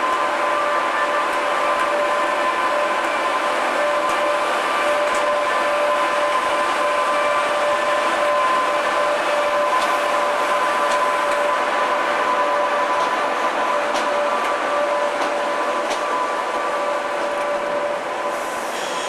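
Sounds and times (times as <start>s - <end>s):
electric locomotive whine: 0.0s - 19.0s
train running noise: 0.0s - 19.0s.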